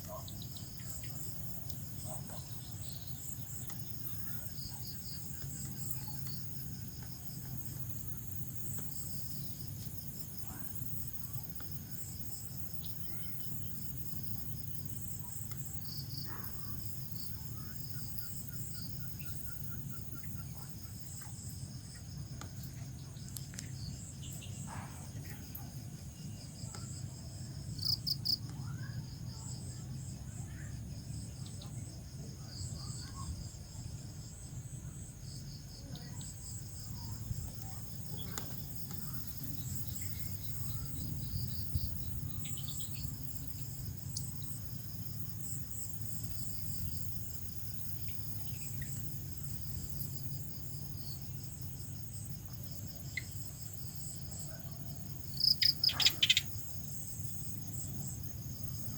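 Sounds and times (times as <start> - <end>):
crickets chirping: 0.0 - 58.9.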